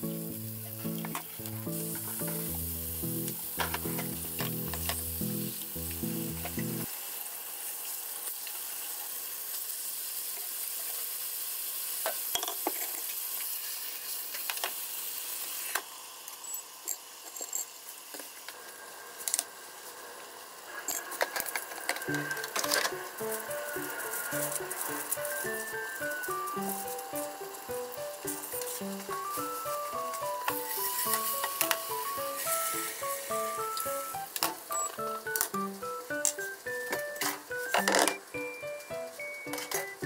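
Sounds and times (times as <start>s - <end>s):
meat sizzling in a frying pan: 0.0s - 40.0s.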